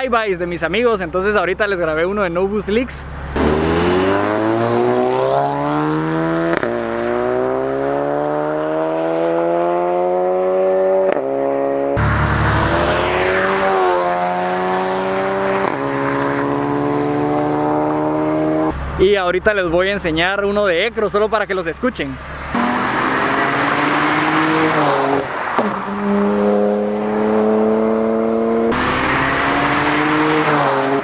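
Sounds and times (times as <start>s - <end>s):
car engine accelerating hard: 3.0s - 19.0s, 22.2s - 31.0s.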